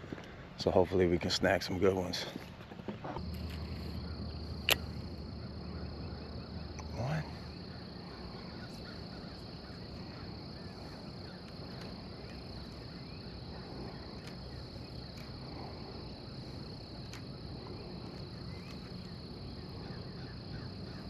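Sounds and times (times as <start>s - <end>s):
low rumbling background: 3.1s - 21.0s
shrill insect chorus: 3.2s - 21.0s.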